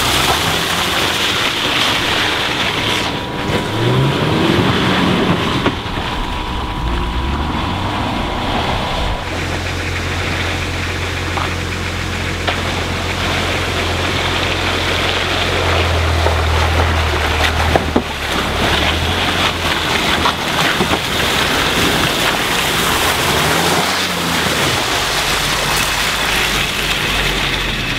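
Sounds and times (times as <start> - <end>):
car engine running: 0.0 - 27.9
tyres splashing in mud: 0.0 - 27.9.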